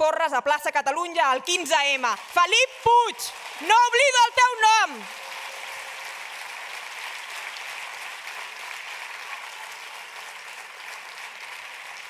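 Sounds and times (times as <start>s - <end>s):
audience applauding: 1.6s - 12.0s.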